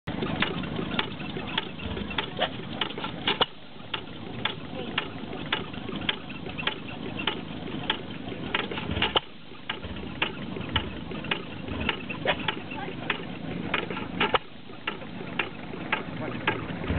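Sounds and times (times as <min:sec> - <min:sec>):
engine flywheel clicking: 0:00.1 - 0:16.9.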